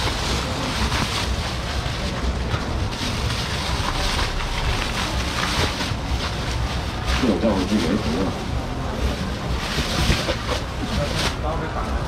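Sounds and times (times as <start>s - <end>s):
wind on microphone rumble: 0.0s - 11.4s
plastic bags crinkling: 0.0s - 12.0s.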